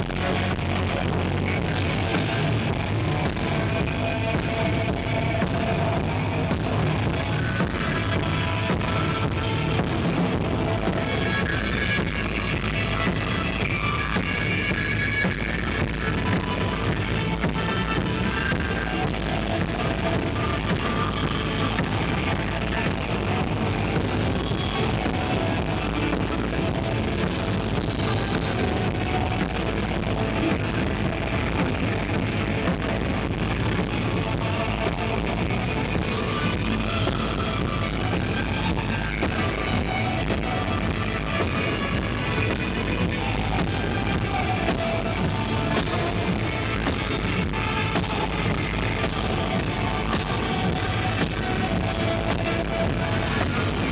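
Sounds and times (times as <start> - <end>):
drum kit beat: 0.0 - 53.9
electric guitars: 0.0 - 53.9.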